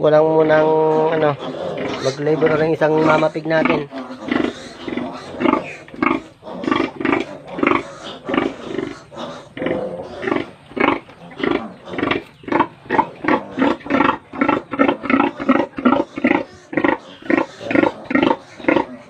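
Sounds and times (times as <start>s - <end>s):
piglets squealing and grunting: 0.1s - 19.0s.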